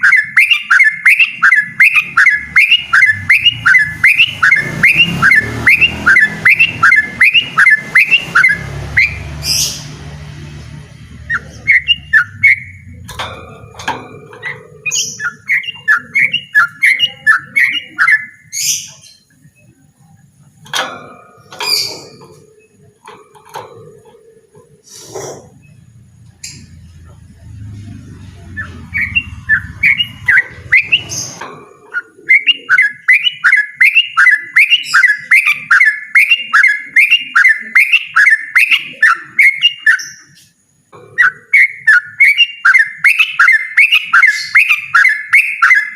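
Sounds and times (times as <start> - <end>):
bulbul singing: 0.0 - 45.9.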